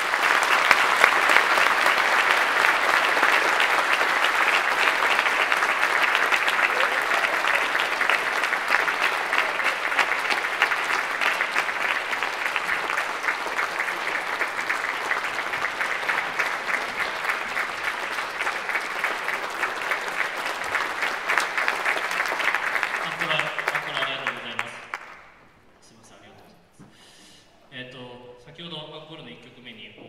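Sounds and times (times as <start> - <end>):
audience applauding: 0.0 - 25.4.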